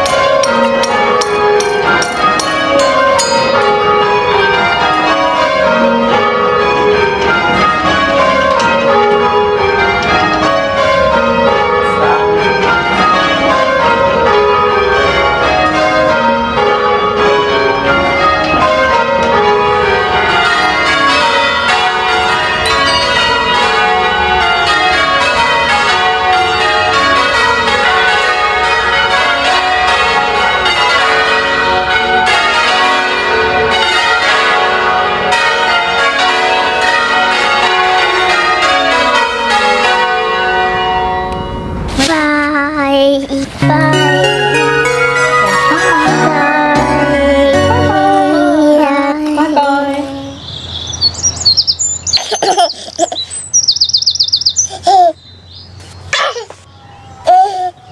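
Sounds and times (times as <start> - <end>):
church bells change ringing: 0.0 - 57.9.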